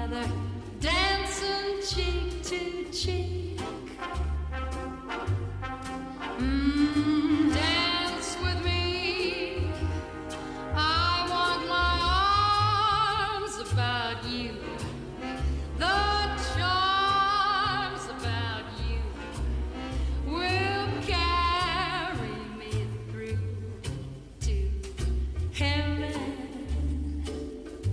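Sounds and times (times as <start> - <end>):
swing song with singer: 0.0 - 27.9
walking bass beat: 3.0 - 27.9.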